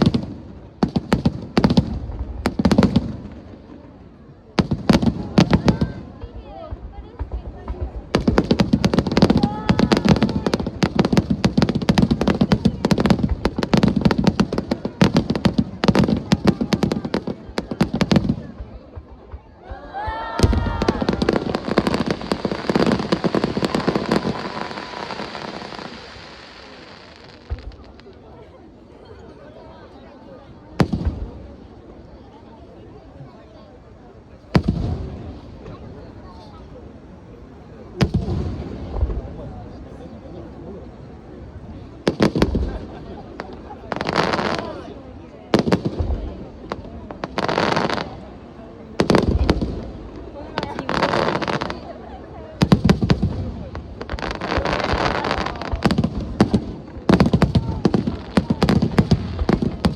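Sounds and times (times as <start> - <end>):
fireworks bursting with sharp bangs: 0.0 - 59.9.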